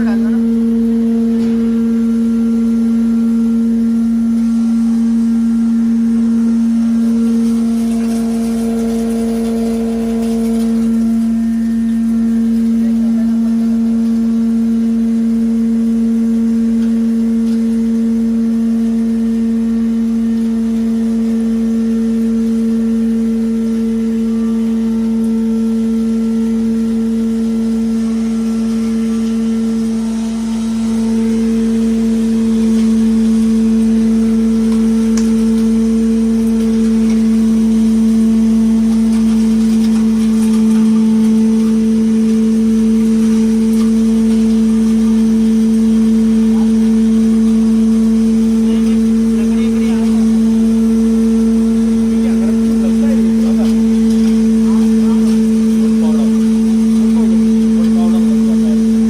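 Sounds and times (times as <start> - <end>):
wood chipper running: 0.0 - 59.0.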